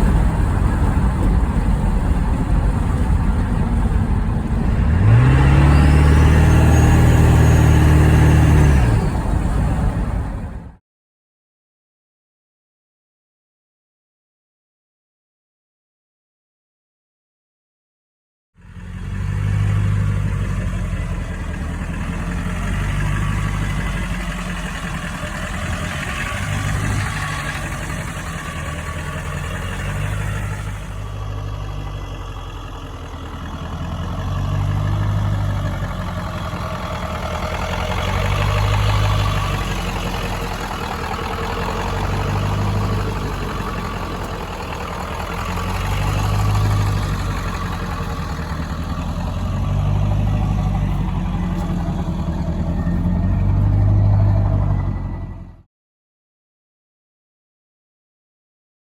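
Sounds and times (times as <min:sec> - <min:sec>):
diesel engine running: 0:00.0 - 0:10.8, 0:18.6 - 0:55.7.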